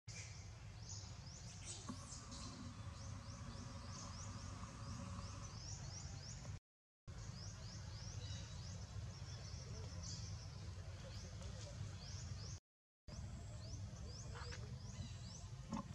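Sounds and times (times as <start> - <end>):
birds chirping: 0.2 - 15.9.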